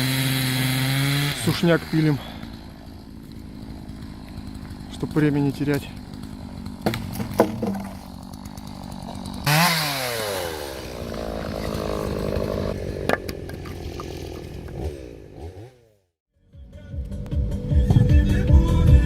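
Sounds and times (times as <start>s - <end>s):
chainsaw cutting wood: 0.0s - 16.2s.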